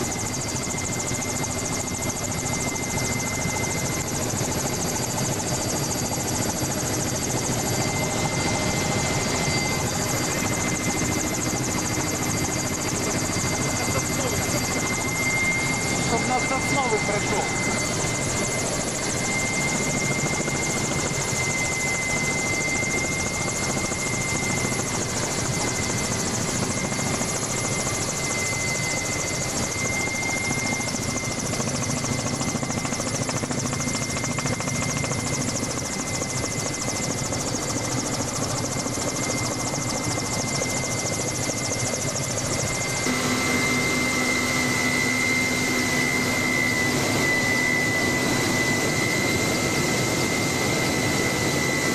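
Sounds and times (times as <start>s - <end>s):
high-pitched whine: 0.0s - 37.8s, 38.6s - 51.9s
helicopter engine and rotor: 0.0s - 51.9s.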